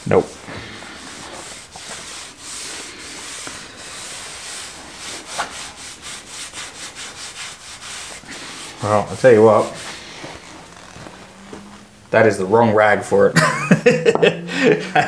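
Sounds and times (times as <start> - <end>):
cloth rag rubbing on wood: 0.0 - 13.7.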